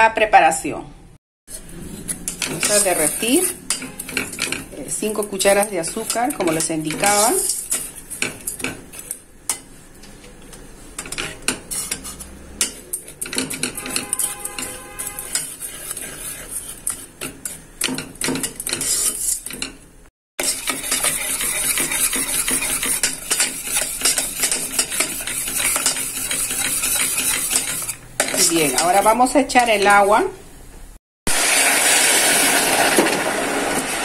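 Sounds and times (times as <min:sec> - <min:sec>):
metal spoon scraping pot: 0:01.5 - 0:19.8, 0:20.4 - 0:30.1.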